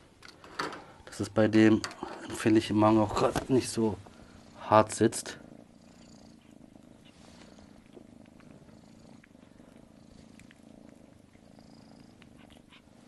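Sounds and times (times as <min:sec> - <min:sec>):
kitten purring: 0:00.8 - 0:13.0.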